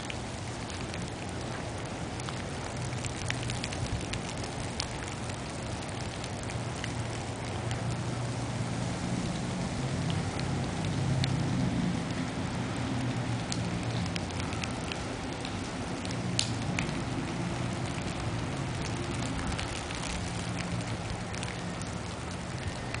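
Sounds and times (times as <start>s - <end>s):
wet snow pattering: 0.0s - 23.0s.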